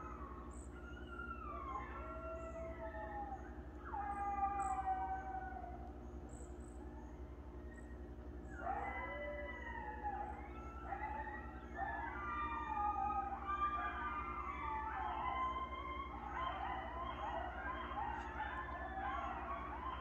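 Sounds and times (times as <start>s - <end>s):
coyotes howling: 0.0s - 20.0s.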